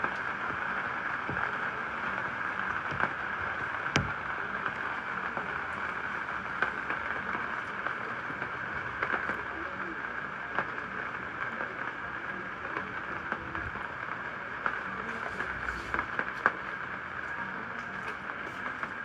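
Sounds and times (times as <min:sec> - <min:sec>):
raindrop ticks: 0:00.0 - 0:19.0
steady rain falling: 0:00.0 - 0:19.0.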